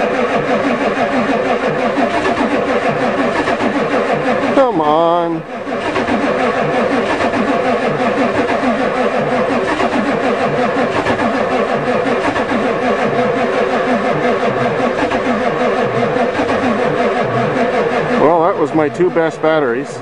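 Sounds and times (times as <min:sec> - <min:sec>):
diesel engine cranking over: 0:00.0 - 0:20.0.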